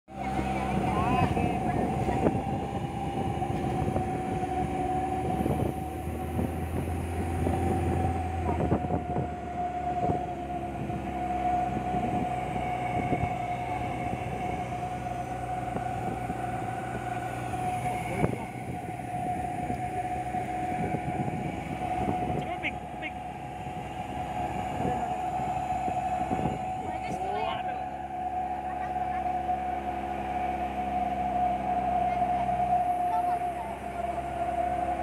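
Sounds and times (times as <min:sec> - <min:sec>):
vehicle engine: 0:00.0 - 0:35.0
road noise: 0:00.1 - 0:35.0
steady high whine: 0:00.1 - 0:35.0.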